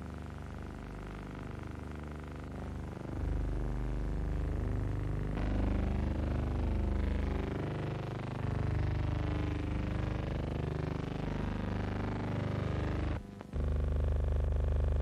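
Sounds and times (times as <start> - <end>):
low buzzing hum with flutter: 0.0 - 15.0.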